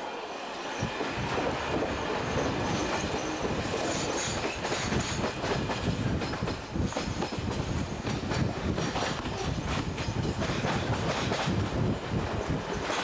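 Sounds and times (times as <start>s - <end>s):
train rumble and rush: 0.0s - 13.0s.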